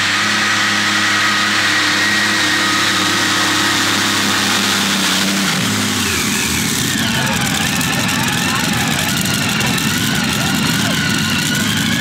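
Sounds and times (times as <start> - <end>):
tractor engine running flat out: 0.0 - 12.0.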